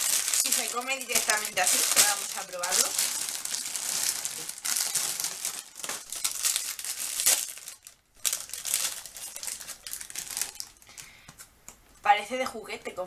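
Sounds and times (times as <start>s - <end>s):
plastic wrapper crinkling: 0.0s - 11.5s.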